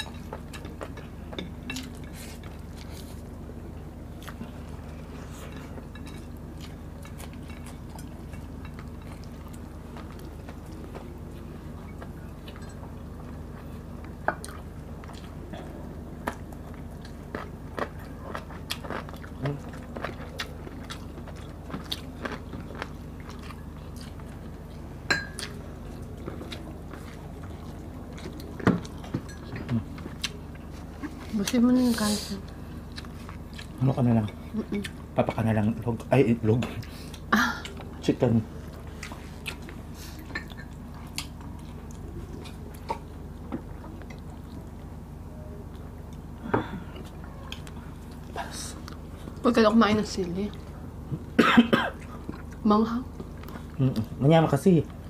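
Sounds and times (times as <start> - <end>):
person chewing food: 0.0 - 3.4, 4.1 - 31.6, 32.5 - 35.4, 38.6 - 44.9, 45.6 - 49.4, 52.0 - 54.2.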